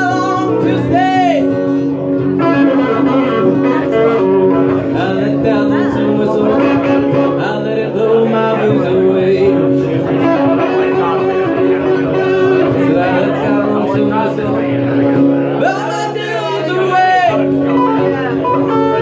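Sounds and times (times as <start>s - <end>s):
acoustic guitar playing: 0.0s - 19.0s
man singing: 0.0s - 19.0s.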